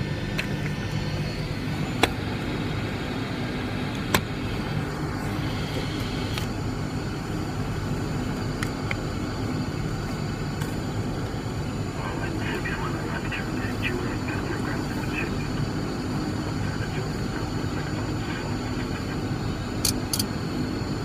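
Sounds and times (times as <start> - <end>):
aircraft piston engines running: 0.0 - 21.0.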